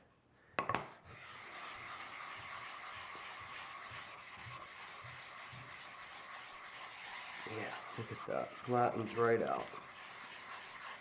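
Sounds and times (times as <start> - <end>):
block scraping on a water stone: 0.7 - 11.0.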